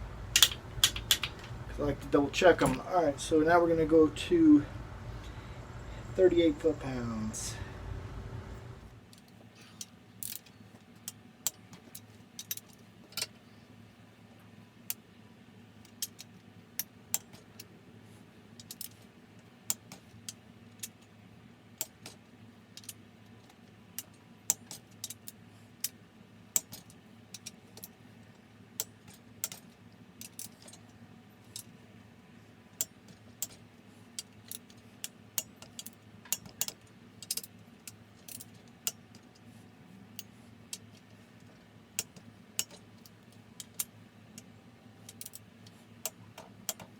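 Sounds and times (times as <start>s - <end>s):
faint low hum: 0.0s - 46.9s.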